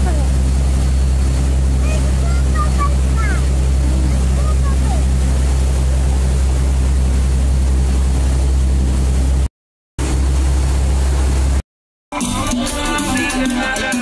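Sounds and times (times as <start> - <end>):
ferry engine droning: 0.0 - 11.6
propeller wake churning water: 0.0 - 14.0.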